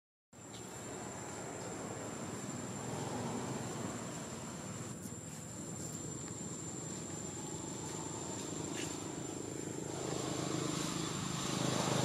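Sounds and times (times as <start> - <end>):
distant engine hum: 0.4 - 12.0.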